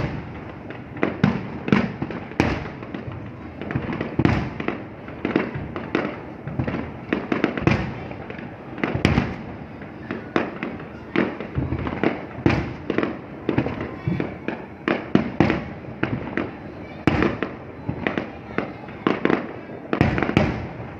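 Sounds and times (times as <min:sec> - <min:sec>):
fireworks bangs and booms: 0:00.0 - 0:20.9.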